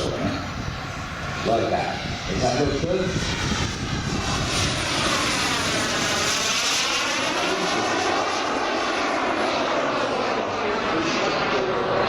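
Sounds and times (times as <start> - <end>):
model jet turbine rushing: 0.0 - 12.0.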